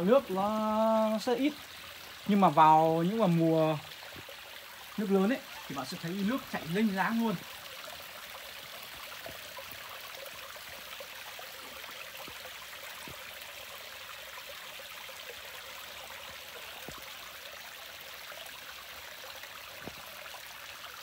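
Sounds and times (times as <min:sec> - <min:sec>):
stream babbling over rocks: 0:00.0 - 0:21.0.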